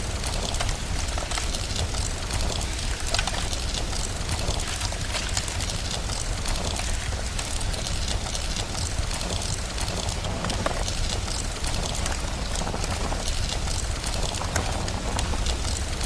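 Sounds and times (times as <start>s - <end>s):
constant low rumble: 0.0s - 16.0s
fire crackling: 0.0s - 16.0s
steady rain: 0.0s - 16.0s.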